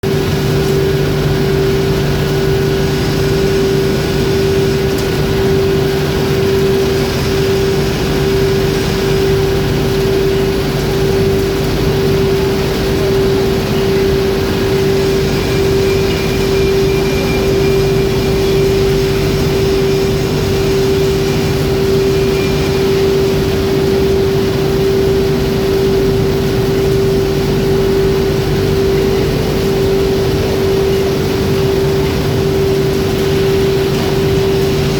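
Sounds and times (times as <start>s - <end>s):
foundry machinery droning: 0.0s - 34.9s.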